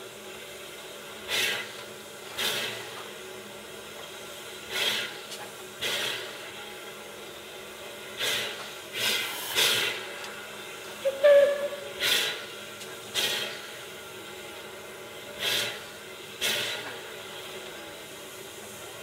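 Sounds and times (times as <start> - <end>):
steam hissing puffs: 0.0 - 19.0.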